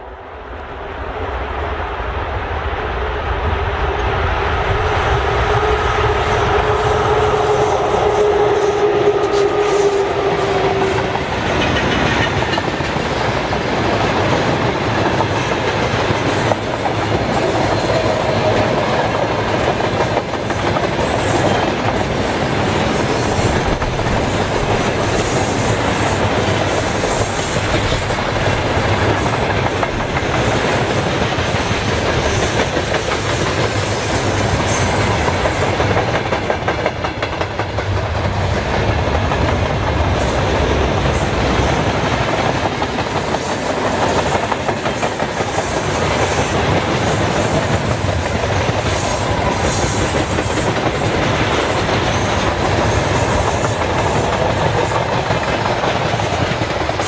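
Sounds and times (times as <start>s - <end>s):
electric locomotive steady tone: 0.0s - 57.0s
freight train rumbling past: 0.0s - 57.0s
wheels clacking over rail joints: 9.1s - 57.0s.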